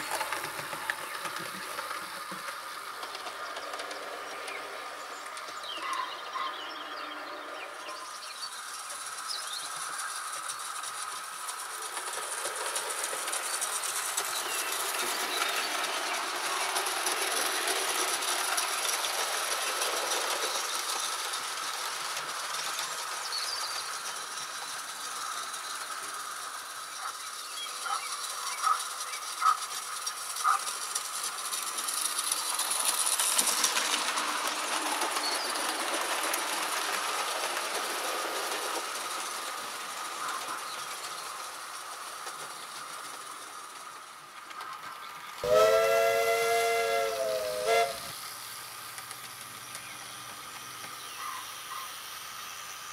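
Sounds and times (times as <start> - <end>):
model train whirring on rails: 0.0 - 52.9.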